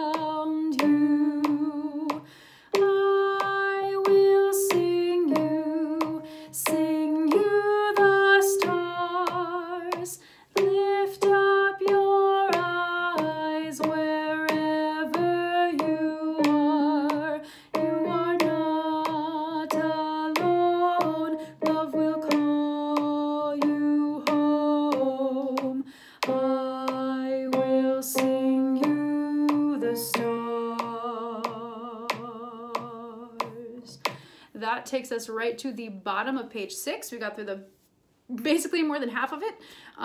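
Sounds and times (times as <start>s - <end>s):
woman singing slow melody: 0.0s - 34.1s
steady sharp clicks: 0.7s - 34.3s.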